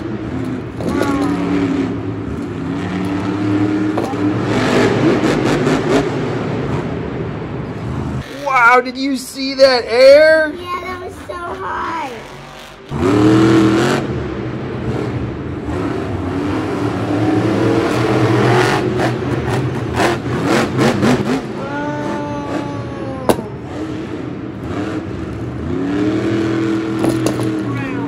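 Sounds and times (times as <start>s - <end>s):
truck engine revving: 0.0s - 8.8s, 10.7s - 28.0s.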